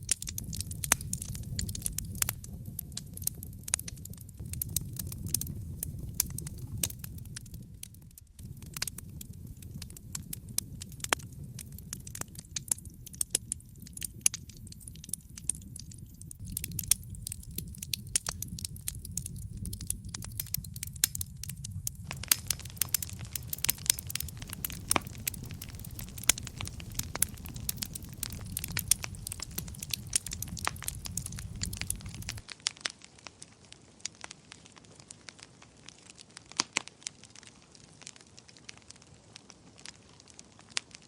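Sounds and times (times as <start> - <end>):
fireplace fire crackling: 0.0 - 41.0
low steady fire rumble: 0.0 - 41.0.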